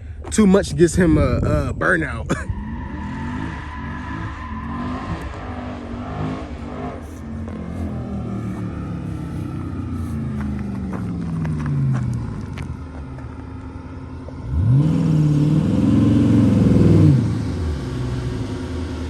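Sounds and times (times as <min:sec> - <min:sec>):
car engine revving down: 0:02.3 - 0:19.0.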